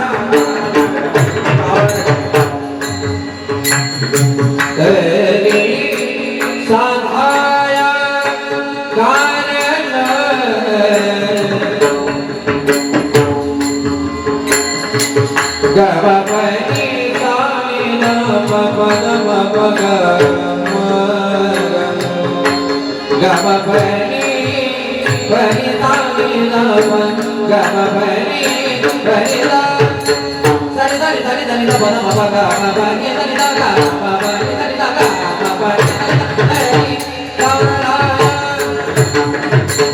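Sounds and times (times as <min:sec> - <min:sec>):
man singing: 0:00.0 - 0:39.9.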